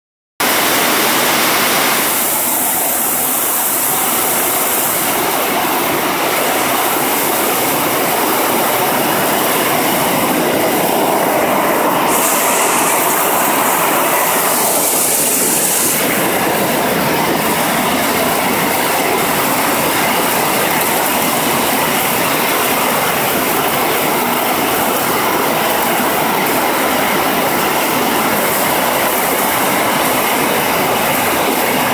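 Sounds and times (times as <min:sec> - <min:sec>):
heavy rain pouring: 0:00.4 - 0:31.9.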